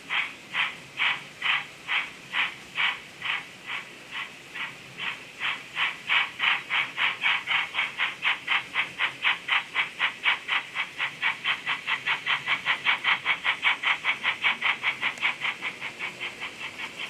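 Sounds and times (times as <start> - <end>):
model steam locomotive chuffs: 0.0 - 17.0.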